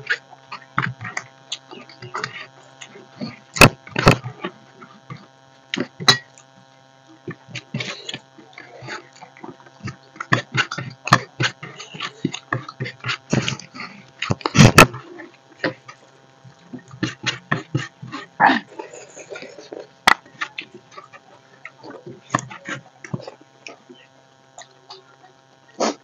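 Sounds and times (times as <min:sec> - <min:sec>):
fingers scraping rice on metal plates: 0:00.0 - 0:06.4, 0:07.2 - 0:25.1
steady electrical hum: 0:00.0 - 0:26.0.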